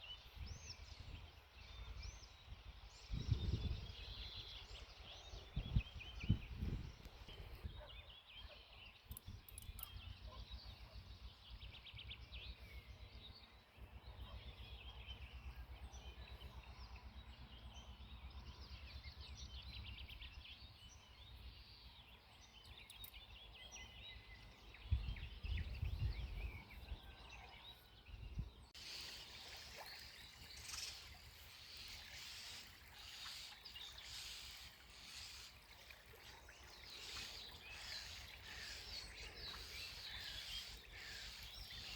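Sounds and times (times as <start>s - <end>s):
songbirds singing and chirping: 0.0s - 41.9s.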